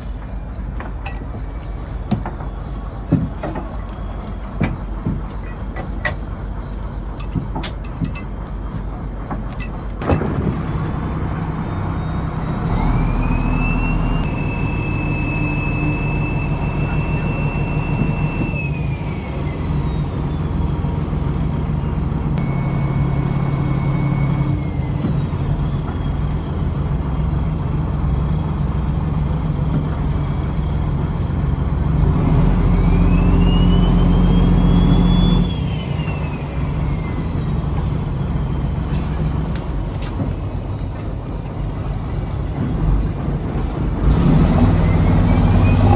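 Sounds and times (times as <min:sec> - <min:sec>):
high machinery whine: 0:00.0 - 0:29.2, 0:31.4 - 0:42.0
diesel engine running: 0:00.0 - 0:45.9.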